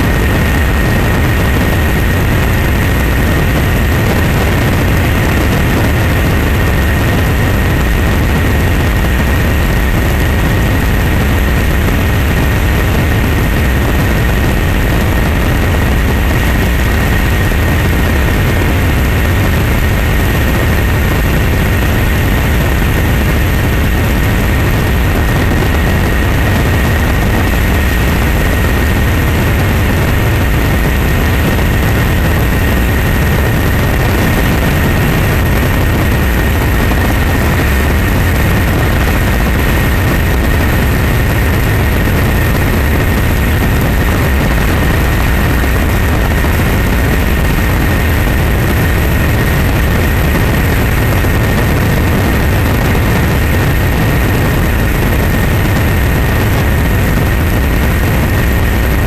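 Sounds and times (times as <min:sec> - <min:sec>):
engine low drone: 0:00.0 - 0:59.0.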